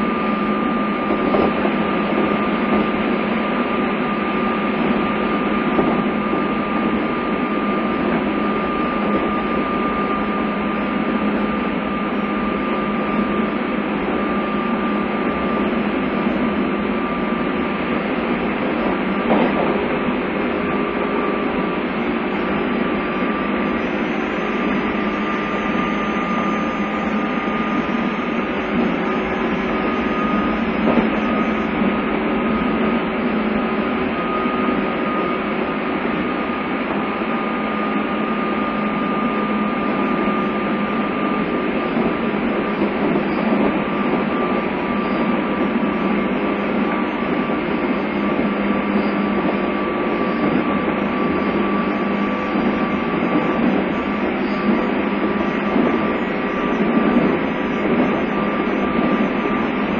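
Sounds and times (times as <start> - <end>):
constant low hum: 0.0 - 59.9
steady high tone: 0.0 - 59.9
train wheels rumbling on rail: 0.0 - 59.9.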